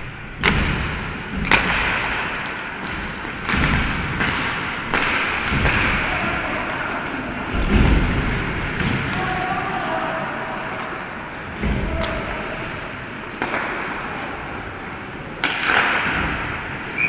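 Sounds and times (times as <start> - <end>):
hockey sticks and puck clacking: 0.0 - 17.0.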